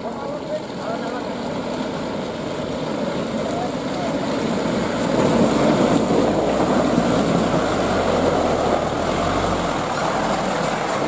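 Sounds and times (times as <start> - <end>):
truck diesel engine in mud: 0.0 - 11.0.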